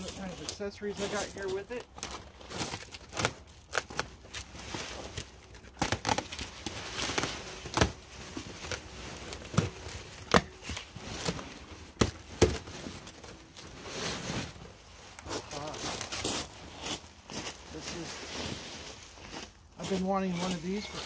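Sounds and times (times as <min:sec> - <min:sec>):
cardboard and packing rustling: 0:00.0 - 0:21.0.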